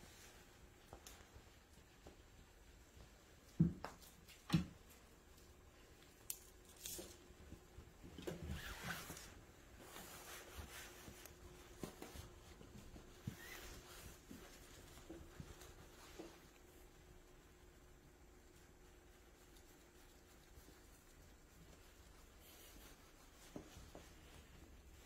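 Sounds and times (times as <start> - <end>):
ribbon toy rustling: 0.0 - 25.0.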